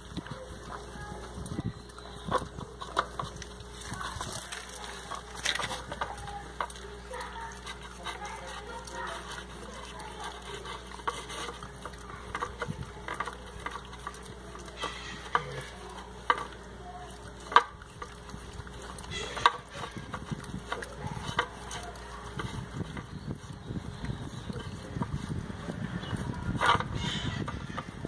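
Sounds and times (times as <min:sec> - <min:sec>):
dog licking ice: 0:00.0 - 0:28.0.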